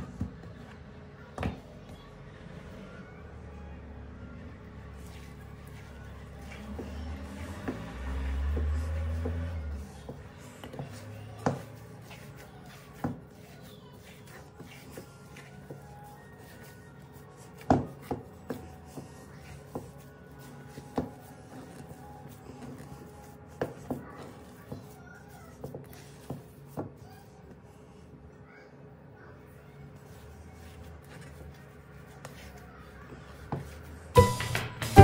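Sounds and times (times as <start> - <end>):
hands kneading dough: 0.0 - 28.3, 29.3 - 35.0.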